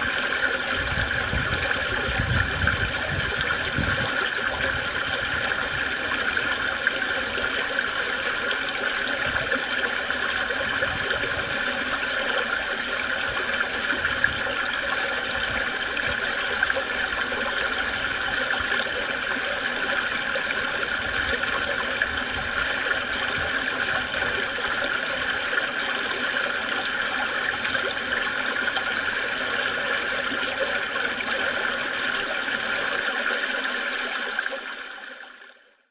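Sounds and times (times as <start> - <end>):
creek babbling over stones: 0.0 - 35.6.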